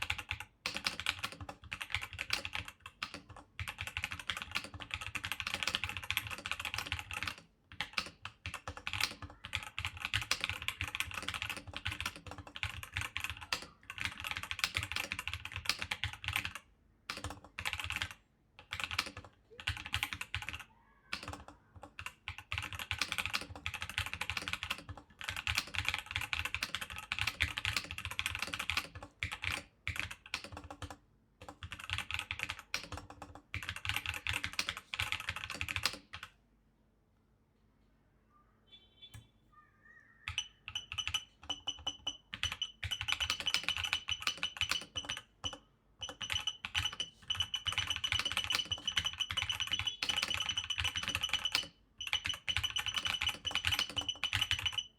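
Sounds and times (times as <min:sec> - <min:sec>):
metallic keyboard typing: 0:00.0 - 0:36.3, 0:40.3 - 0:54.9.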